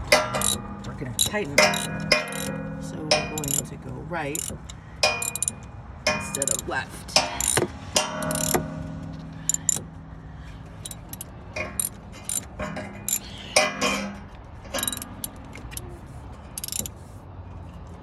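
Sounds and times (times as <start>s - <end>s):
hand tools clinking on metal: 0.0s - 18.0s.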